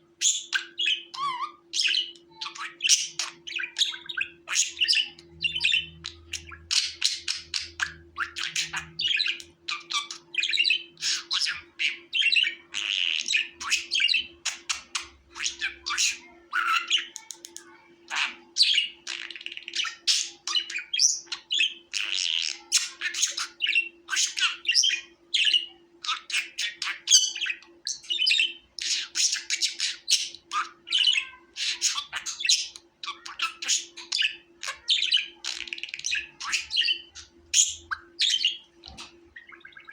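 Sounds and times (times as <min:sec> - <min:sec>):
budgerigars chirping: 0:00.2 - 0:17.2, 0:18.1 - 0:39.9.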